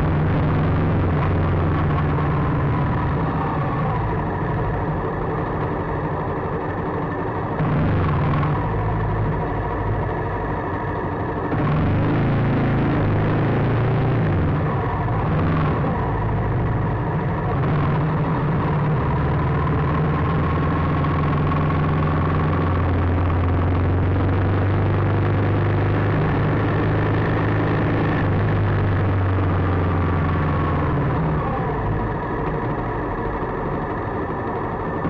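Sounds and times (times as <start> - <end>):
motorcycle engine humming: 0.0 - 35.0
road and traffic noise: 0.0 - 35.0.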